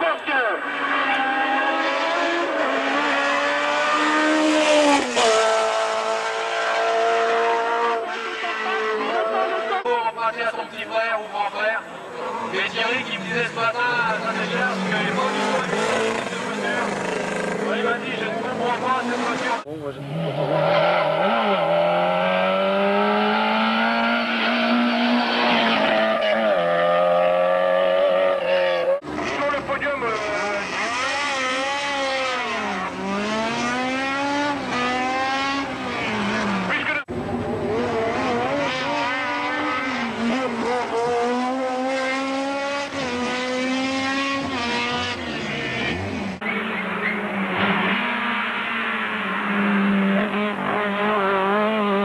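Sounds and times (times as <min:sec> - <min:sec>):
car engine revving hard: 0:00.6 - 0:09.8, 0:14.1 - 0:52.0.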